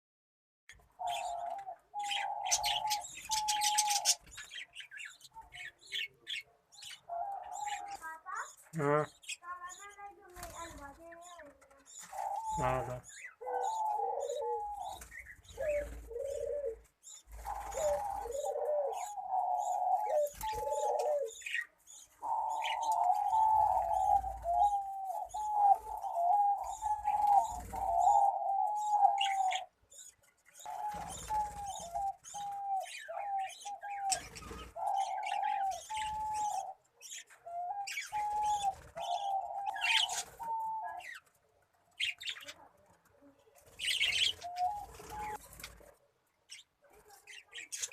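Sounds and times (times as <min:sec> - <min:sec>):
small birds chirping: 0:00.7 - 0:47.9
pigeons cooing: 0:00.8 - 0:47.9.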